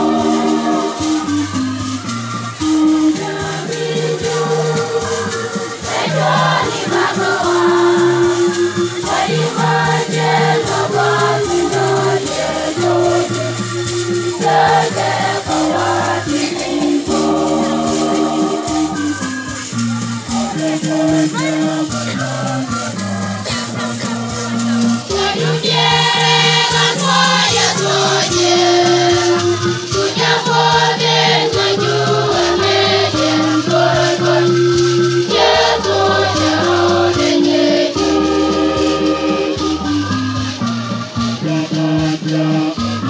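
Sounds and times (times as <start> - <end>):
hand rattles shaking: 0.0 - 42.1
women's choir singing: 0.0 - 43.0.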